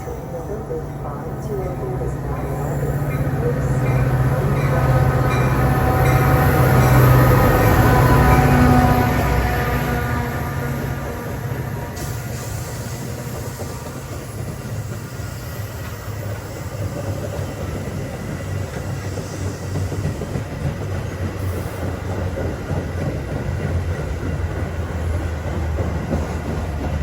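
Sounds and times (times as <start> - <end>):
diesel locomotive engine running: 0.0 - 27.0
rail noise: 0.0 - 27.0.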